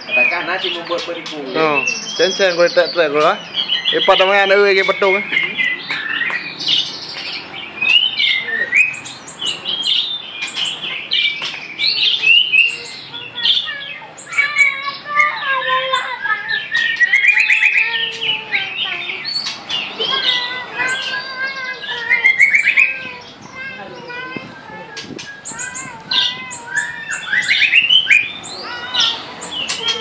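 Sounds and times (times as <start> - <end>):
songbird whistling and chirping: 0.0 - 30.0.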